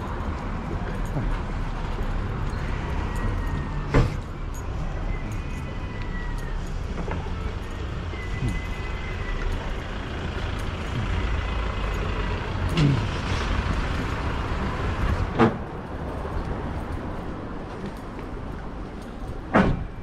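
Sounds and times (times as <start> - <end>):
heavy vehicle engine rumble: 0.0 - 20.0.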